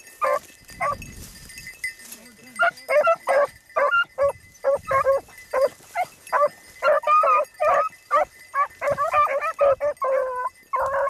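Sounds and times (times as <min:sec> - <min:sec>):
dogs barking and yipping: 0:00.0 - 0:01.1, 0:02.5 - 0:11.0.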